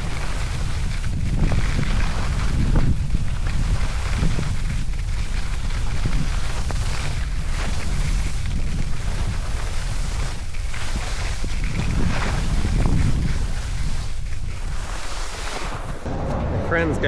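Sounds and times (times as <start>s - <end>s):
skis hissing on snow: 0.0s - 16.1s
wind buffeting microphone: 0.0s - 17.0s.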